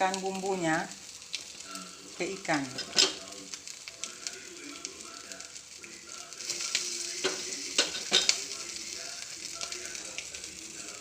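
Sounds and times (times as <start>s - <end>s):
fish sizzling on grill pan: 0.0s - 11.0s.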